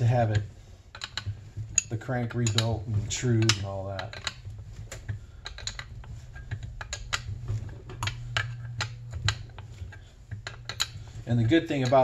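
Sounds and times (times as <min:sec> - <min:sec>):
metal tools clicking and tapping: 0:00.0 - 0:12.0
steady low hum: 0:00.0 - 0:12.0.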